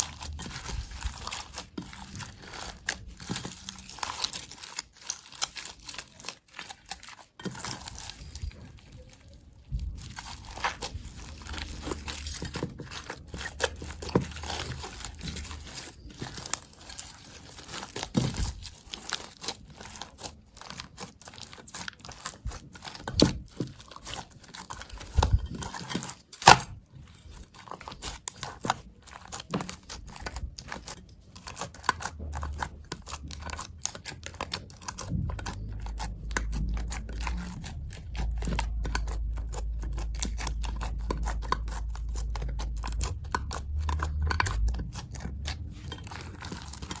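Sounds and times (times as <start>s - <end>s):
slime crackling and clicking: 0.0s - 47.0s.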